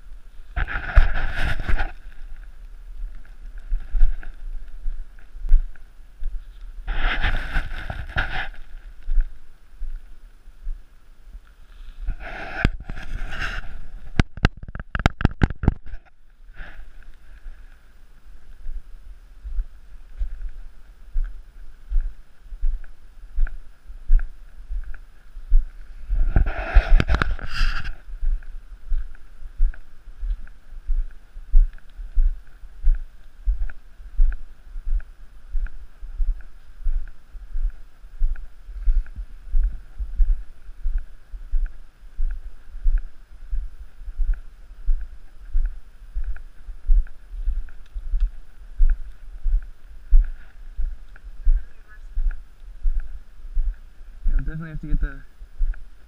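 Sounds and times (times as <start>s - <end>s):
footsteps on paved path: 0.0s - 56.0s.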